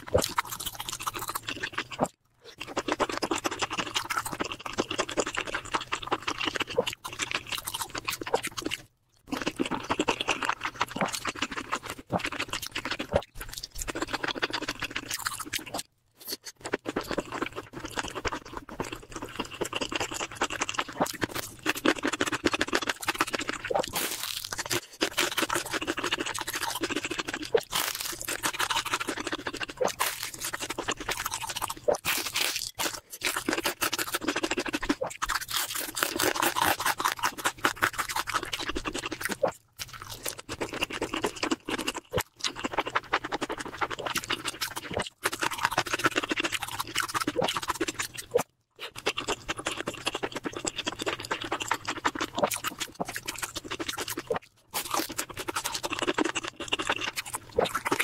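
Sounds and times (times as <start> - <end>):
person chewing with wet smacking: 0.0 - 58.0.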